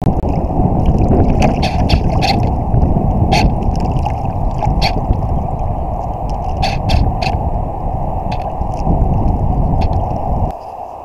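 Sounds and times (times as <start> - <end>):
water splashing against hull: 0.0 - 10.6
wind buffeting microphone: 0.0 - 11.0.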